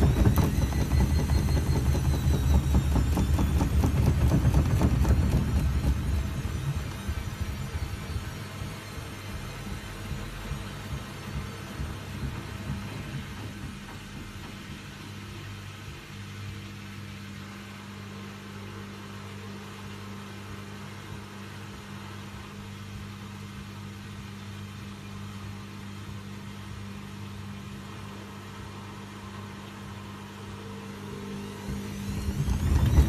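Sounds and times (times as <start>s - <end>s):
washing machine spinning with hum: 0.0s - 33.0s.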